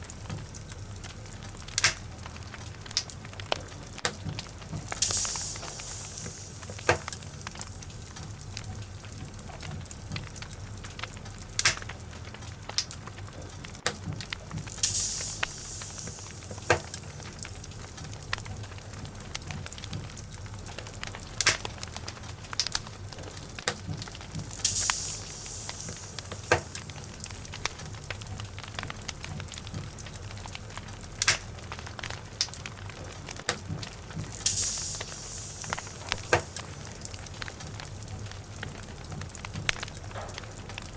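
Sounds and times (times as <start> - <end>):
fire hissing: 0.0 - 40.9
fire low rumble: 0.0 - 40.9
logs crackling and popping: 0.0 - 40.9.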